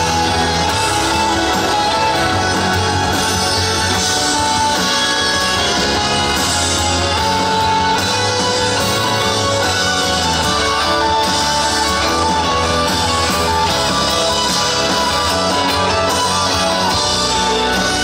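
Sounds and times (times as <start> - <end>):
instrumental rock music with guitars: 0.0 - 18.0.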